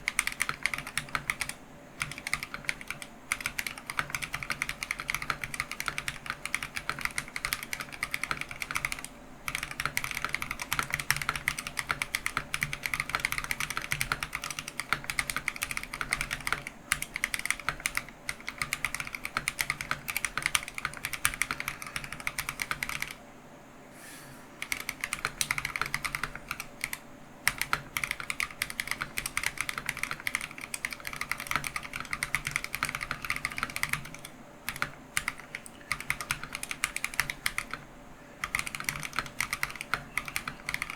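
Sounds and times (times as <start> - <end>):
typing on mechanical keyboard: 0.0 - 23.2, 24.6 - 40.9.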